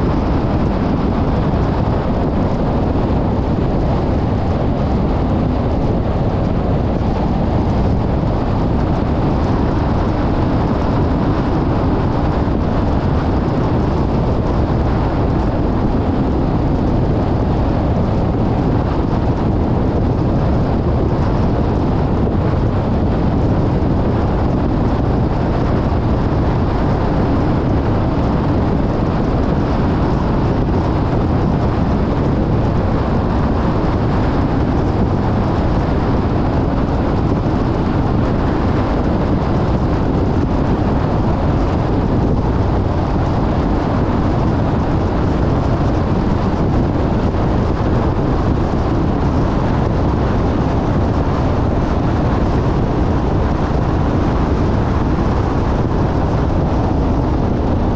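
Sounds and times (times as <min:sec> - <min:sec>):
wind noise on microphone: 0:00.0 - 0:57.9.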